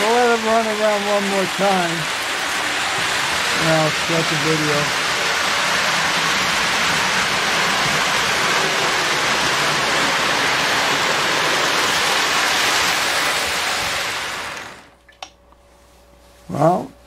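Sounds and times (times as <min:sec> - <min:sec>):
model locomotive motor: 0:00.0 - 0:14.9.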